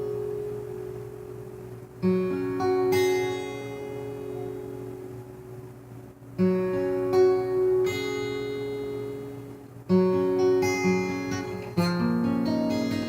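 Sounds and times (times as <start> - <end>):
acoustic guitar chords strummed: 0.0 - 13.0.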